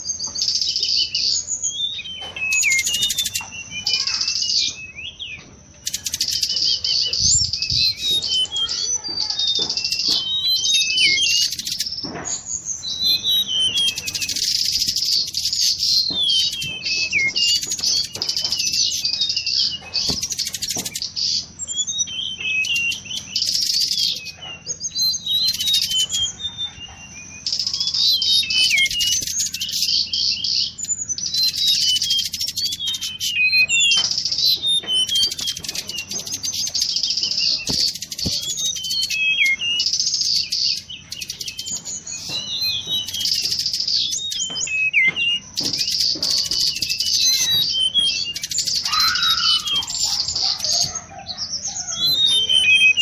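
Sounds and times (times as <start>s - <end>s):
bird chirping and trilling: 0.0s - 53.0s.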